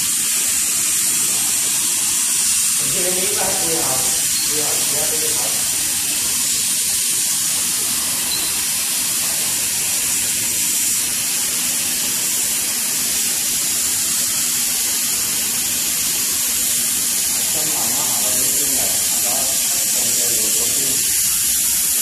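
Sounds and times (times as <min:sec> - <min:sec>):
hot-air blower hissing: 0:00.0 - 0:22.0.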